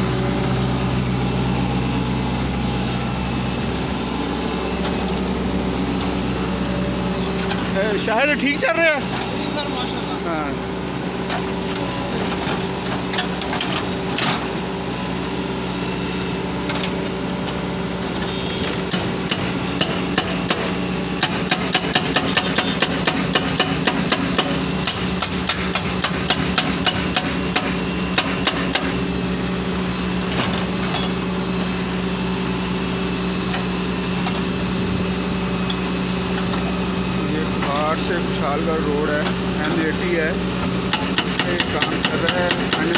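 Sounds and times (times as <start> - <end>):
diesel engine running: 0.0 - 42.9
hydraulic breaker pounding rock: 3.7 - 15.0, 16.2 - 42.9.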